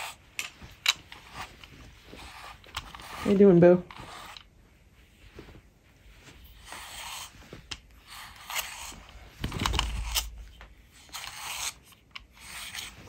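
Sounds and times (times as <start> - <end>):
brush scratching through cat fur: 0.0 - 0.3, 1.2 - 13.0.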